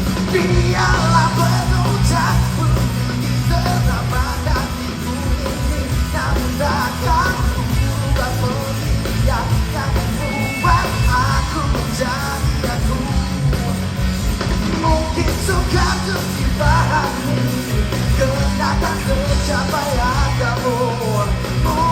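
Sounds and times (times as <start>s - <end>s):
person singing over band: 0.0s - 14.1s, 14.7s - 21.9s
rock band playing live: 0.0s - 21.9s.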